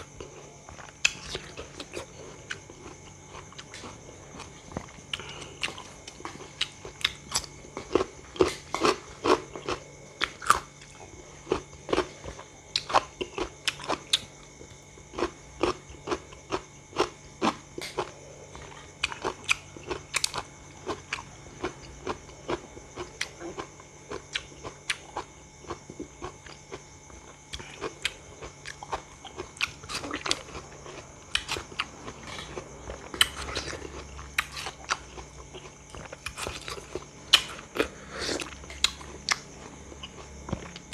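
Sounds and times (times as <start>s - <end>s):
chewing crisp raw fruit: 0.0s - 40.9s.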